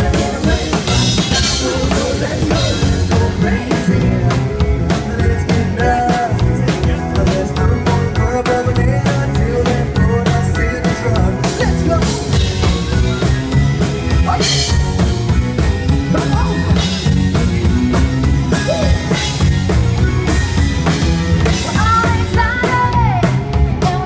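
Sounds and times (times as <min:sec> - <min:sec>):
bass guitar: 0:00.0 - 0:24.0
drum kit beat: 0:00.0 - 0:24.0
electric guitar: 0:00.0 - 0:24.0.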